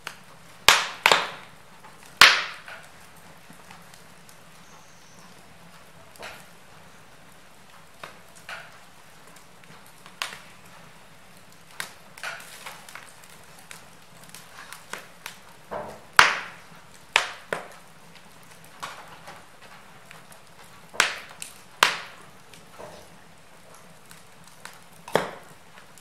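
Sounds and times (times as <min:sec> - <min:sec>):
fire hissing: 0:00.0 - 0:26.0
wood fire crackling and popping: 0:00.0 - 0:26.0.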